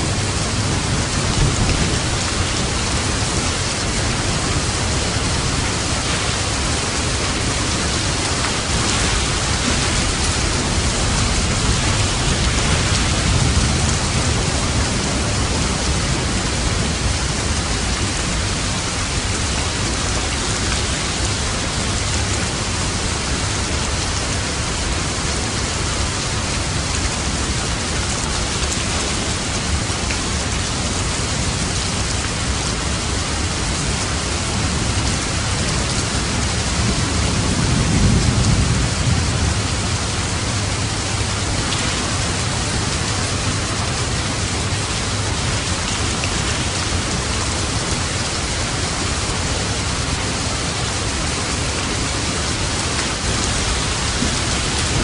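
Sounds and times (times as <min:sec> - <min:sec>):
low rumble of thunder: 0:00.0 - 0:28.4, 0:34.6 - 0:55.0
dense rainfall: 0:00.0 - 0:55.0.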